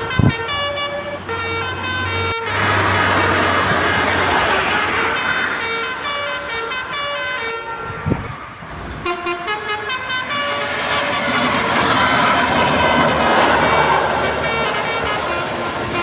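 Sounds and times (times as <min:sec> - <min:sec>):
multi-tone air horn playing a tune: 0:00.0 - 0:08.3, 0:09.0 - 0:16.0.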